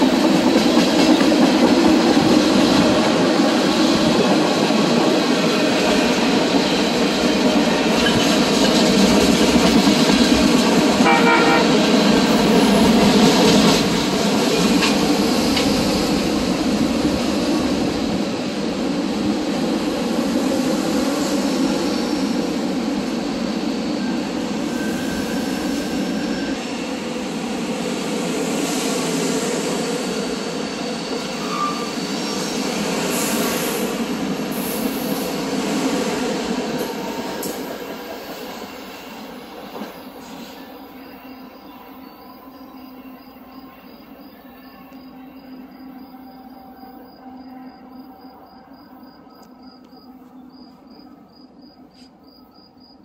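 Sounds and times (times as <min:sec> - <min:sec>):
train wheels rumbling on rails: 0:00.0 - 0:52.1.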